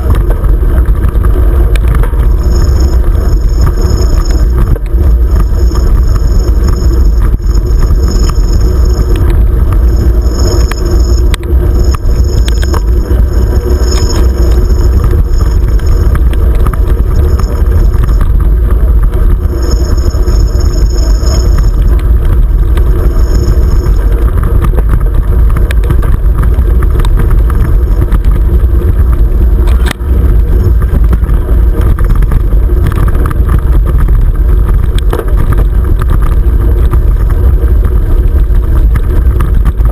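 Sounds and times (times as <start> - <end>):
bike tyres rolling on dirt: 0.0 - 39.9
wind buffeting microphone: 0.0 - 39.9.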